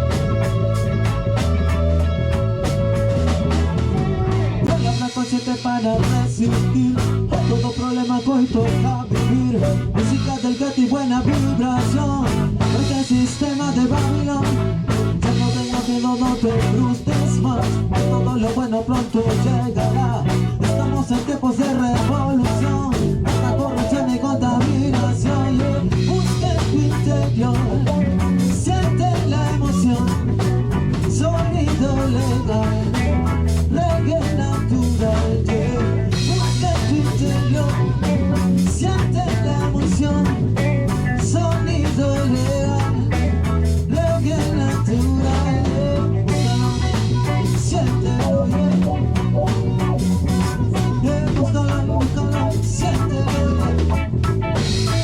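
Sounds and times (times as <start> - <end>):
drum kit steady beat: 0.0 - 55.0
ska band playing: 0.0 - 55.0.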